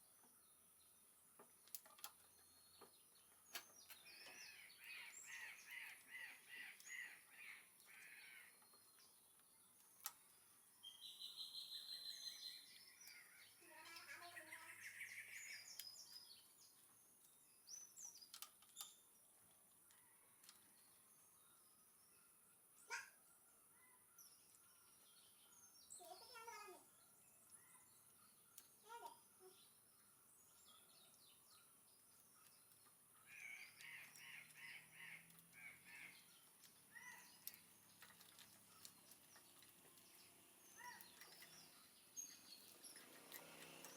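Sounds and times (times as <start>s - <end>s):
faint bird chirps: 0.0s - 43.9s.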